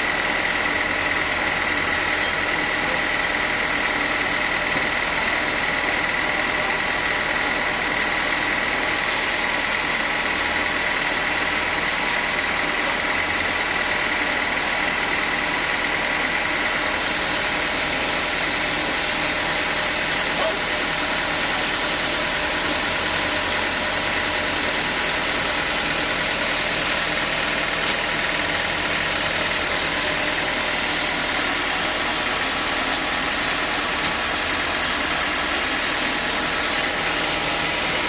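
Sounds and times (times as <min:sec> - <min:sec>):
high machine whine: 0:00.0 - 0:38.0
sawmill machinery sawing wood: 0:00.0 - 0:38.0.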